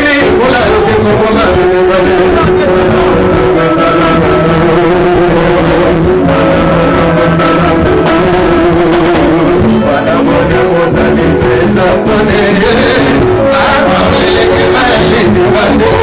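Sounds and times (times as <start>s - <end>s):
live band music: 0.0s - 16.0s
man singing into a microphone: 0.0s - 16.0s.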